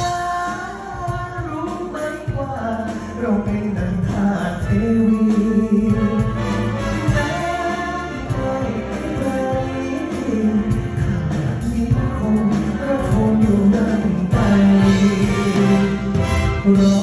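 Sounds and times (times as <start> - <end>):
live orchestra: 0.0 - 17.0
man singing a slow ballad: 0.0 - 17.0.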